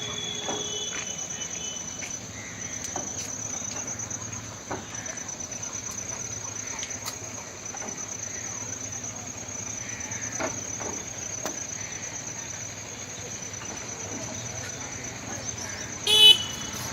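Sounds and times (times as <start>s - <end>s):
crickets trilling: 0.0s - 16.9s.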